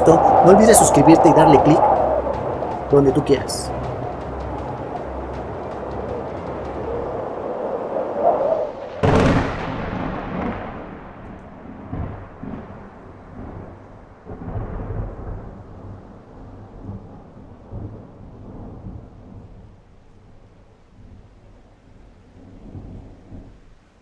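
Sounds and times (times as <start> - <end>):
thunder crack: 0.0 - 19.6
low thunder rumble: 0.0 - 23.7.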